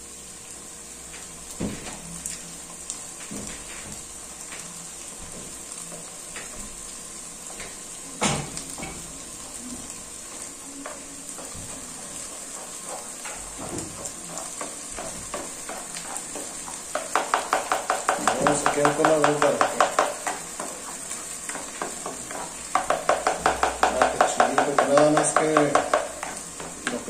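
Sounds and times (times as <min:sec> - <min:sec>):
sauce sizzling in oil: 0:00.0 - 0:27.0.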